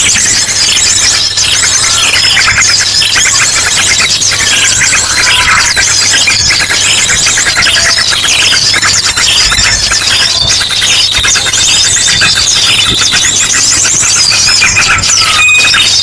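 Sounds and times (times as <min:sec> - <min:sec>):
drongo calls: 0:00.0 - 0:16.0
held whistle: 0:00.0 - 0:16.0
small birds chirping and trilling: 0:00.0 - 0:16.0.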